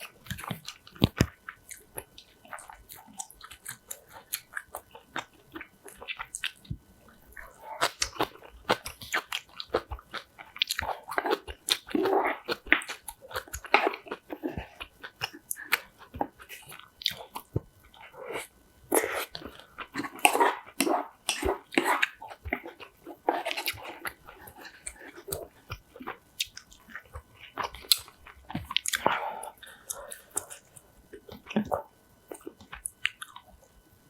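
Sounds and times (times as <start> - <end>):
wet chewing and mouth sounds: 0.0 - 33.8.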